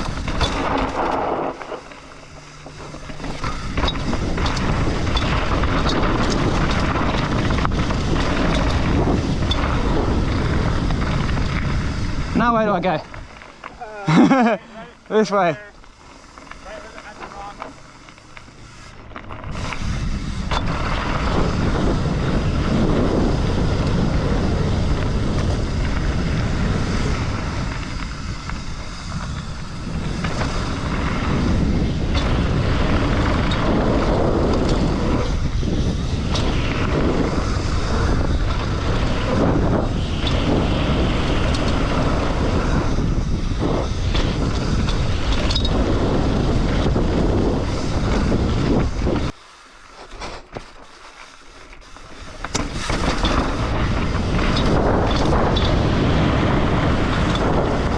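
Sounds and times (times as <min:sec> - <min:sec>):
wind noise on microphone: 0:00.0 - 0:15.6, 0:16.2 - 0:57.9
bike knocking and rattling: 0:00.0 - 0:57.9
tyres crunching and skidding on dirt: 0:00.0 - 0:57.9.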